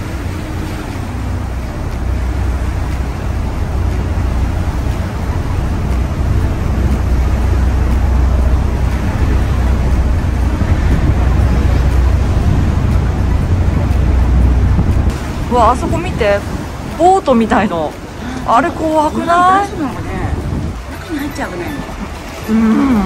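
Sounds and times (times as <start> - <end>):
boat engine rumble: 0.0 - 23.0
churning seawater: 0.0 - 23.0.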